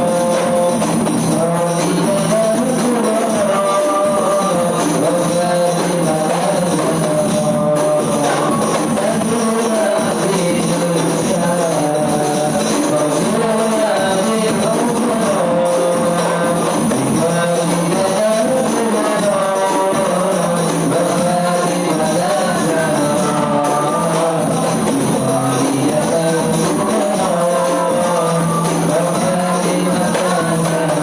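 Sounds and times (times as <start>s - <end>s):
frame drum ensemble playing: 0.0s - 31.0s
group singing devotional song: 0.0s - 31.0s.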